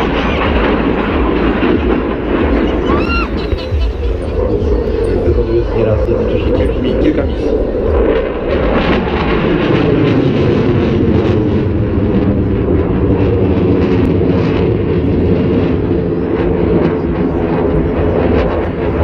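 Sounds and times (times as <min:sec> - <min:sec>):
loud deep jet engine noise: 0:00.0 - 0:19.0.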